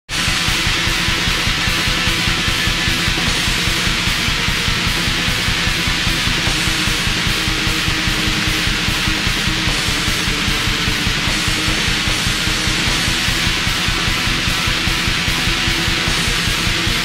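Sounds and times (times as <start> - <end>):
black metal song: 0.1 - 17.0
distorted guitars: 0.1 - 17.0
fast pounding drum beat: 0.1 - 17.0.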